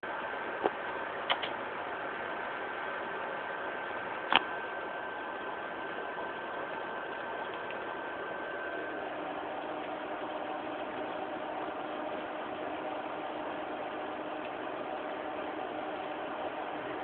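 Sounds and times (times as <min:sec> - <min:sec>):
faint tonal hum: 0:00.1 - 0:17.0.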